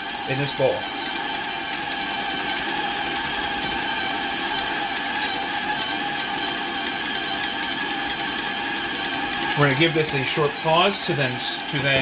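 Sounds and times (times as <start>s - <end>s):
stand mixer motor whine: 0.0s - 12.0s.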